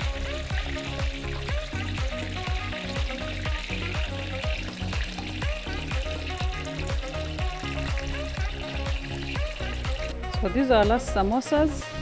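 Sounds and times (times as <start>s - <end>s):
deep-frying sizzle: 0.0s - 10.5s
background music with drum beat: 0.0s - 12.0s.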